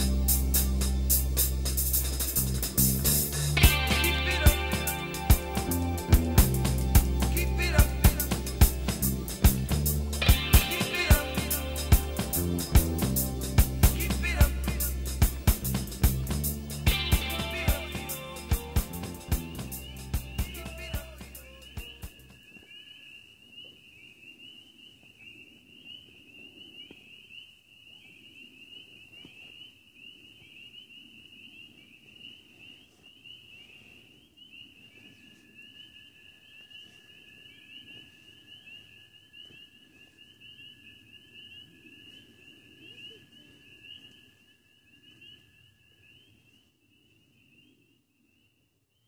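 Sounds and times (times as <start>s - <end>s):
frogs calling: 0.0s - 47.8s.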